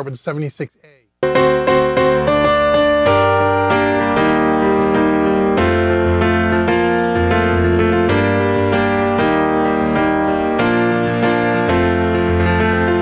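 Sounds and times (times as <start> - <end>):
keyboard chords over bass: 1.2 - 13.0.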